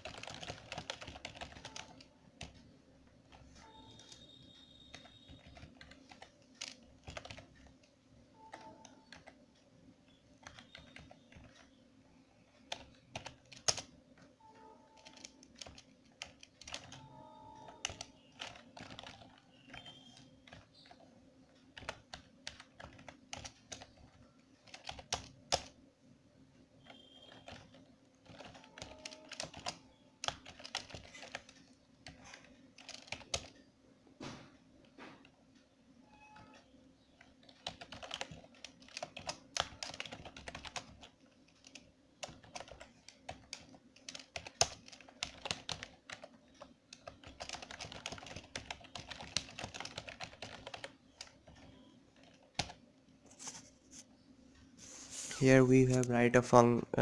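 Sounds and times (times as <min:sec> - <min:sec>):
computer keyboard typing: 0:00.0 - 0:02.6, 0:03.2 - 0:09.6, 0:10.4 - 0:11.8, 0:12.6 - 0:25.8, 0:26.8 - 0:33.7, 0:36.2 - 0:52.8
faint steady hum: 0:00.0 - 0:57.0.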